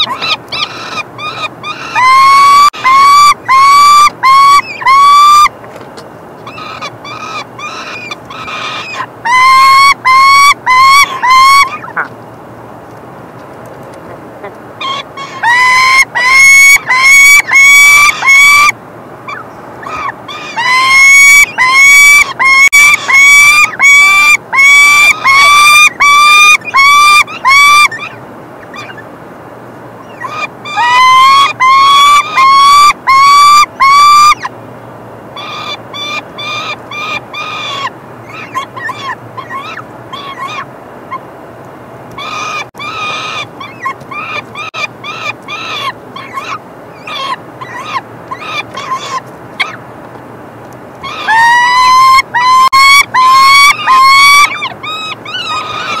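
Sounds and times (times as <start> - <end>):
falcons calling loudly: 0.0 - 5.5, 6.4 - 12.2, 14.4 - 29.1, 30.0 - 34.5, 35.4 - 41.3, 42.1 - 49.8, 51.0 - 56.0.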